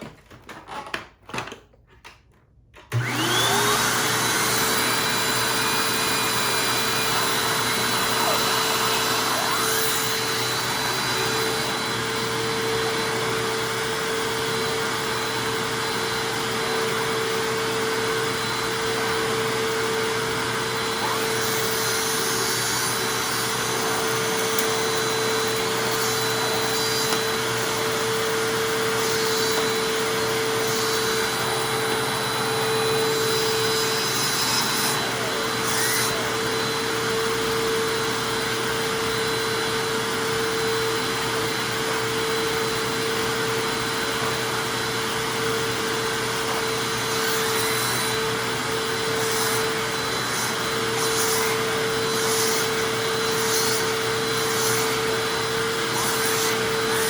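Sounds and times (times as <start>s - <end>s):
vacuum cleaner motor whine: 2.8s - 57.0s.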